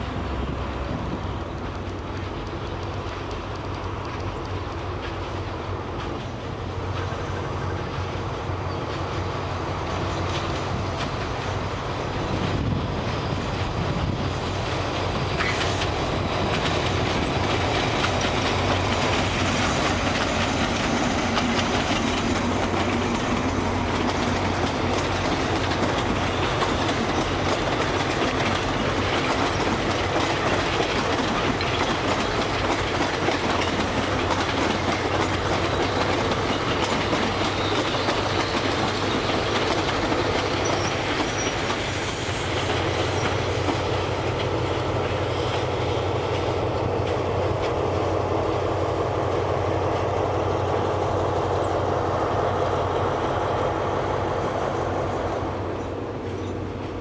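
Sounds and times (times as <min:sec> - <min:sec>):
diesel locomotive engine hum: 0:00.0 - 0:57.0
train wheels clattering: 0:00.0 - 0:57.0.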